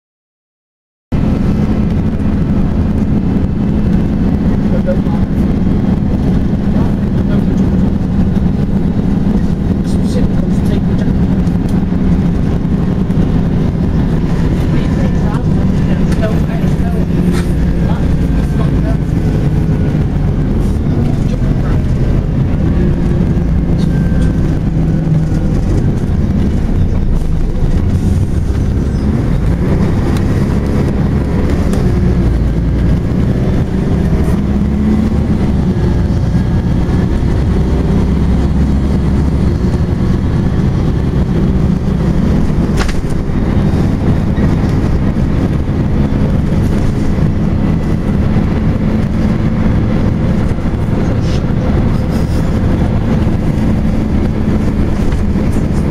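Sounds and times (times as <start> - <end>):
bus engine cooling fan drone: 1.1 - 55.9.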